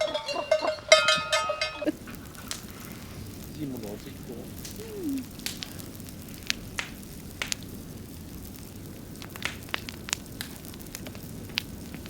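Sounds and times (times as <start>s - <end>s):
campfire crackling: 0.0s - 12.0s
steady low rumble: 0.0s - 12.0s.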